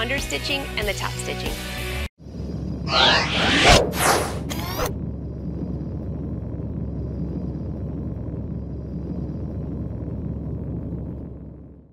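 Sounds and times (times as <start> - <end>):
low rumbling drone: 2.2 - 11.9.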